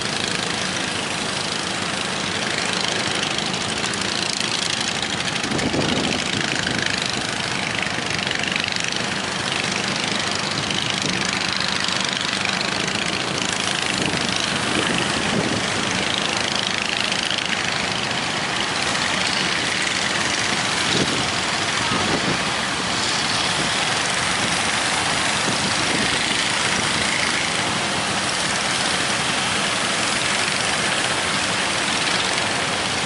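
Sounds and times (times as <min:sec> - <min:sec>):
boat engine running: 0:00.0 - 0:33.0
rush of wind and water: 0:00.0 - 0:33.0.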